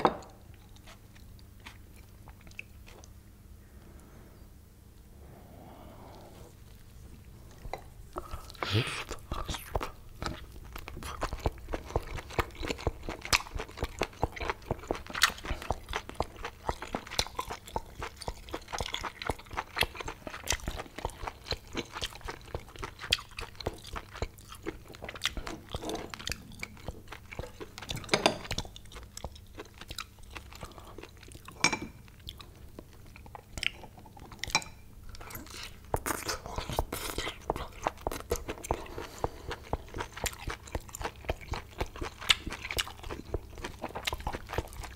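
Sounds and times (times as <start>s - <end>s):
biting and chewing: 7.6s - 34.6s, 35.2s - 44.9s.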